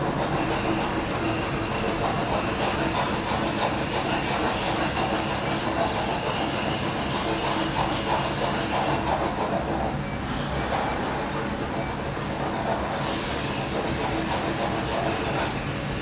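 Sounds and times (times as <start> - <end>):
machine hum and whir: 0.0 - 16.0.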